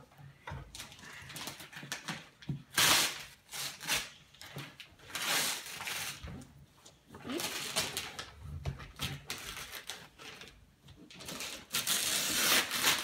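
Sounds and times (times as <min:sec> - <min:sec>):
wrapping paper ripping and crinkling: 0:00.7 - 0:06.2, 0:07.2 - 0:10.6, 0:11.2 - 0:13.0.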